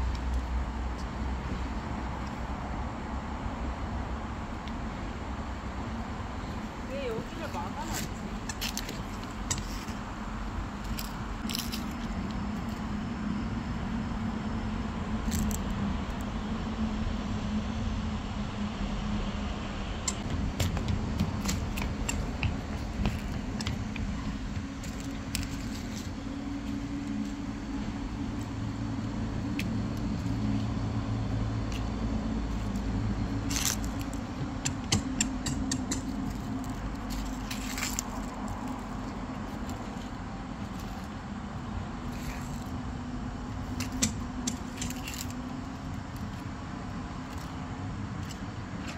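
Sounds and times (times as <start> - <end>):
low mechanical hum: 0.0 - 48.9.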